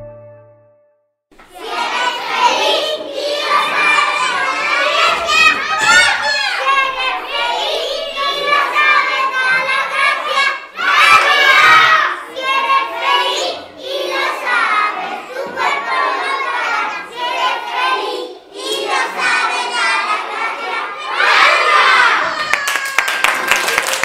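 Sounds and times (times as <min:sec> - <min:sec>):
children shouting and cheering: 0:01.4 - 0:24.0.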